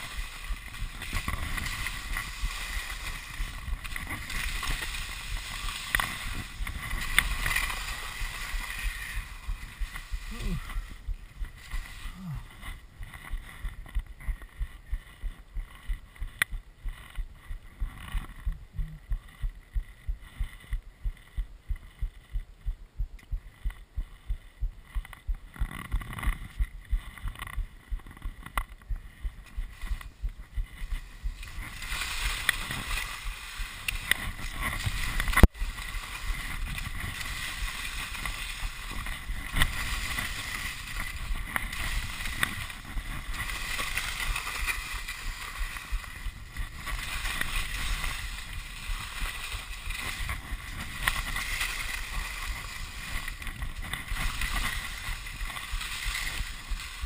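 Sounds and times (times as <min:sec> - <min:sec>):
skis scraping over hard snow: 0:00.0 - 0:18.6, 0:25.6 - 0:57.0.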